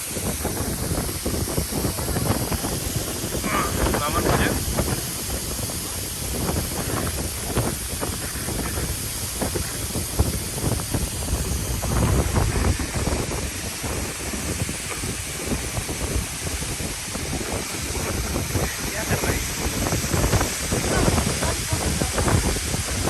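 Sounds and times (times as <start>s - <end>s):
waterfall rushing: 0.0s - 23.0s
wind buffeting microphone: 0.0s - 23.0s.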